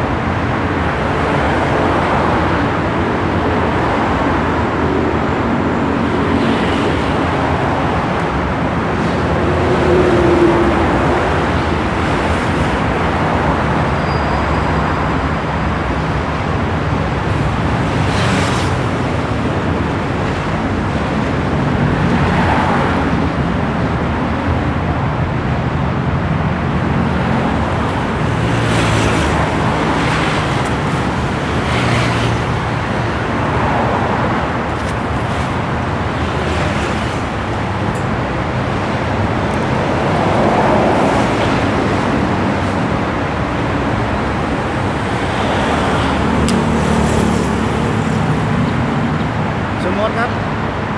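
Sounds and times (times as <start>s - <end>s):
road traffic noise: 0.0s - 50.9s
vehicles passing: 0.0s - 50.9s.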